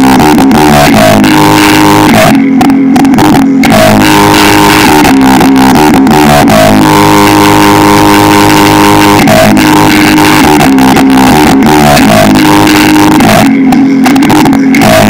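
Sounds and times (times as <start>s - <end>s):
loud guitar music through speakers: 0.0s - 15.0s.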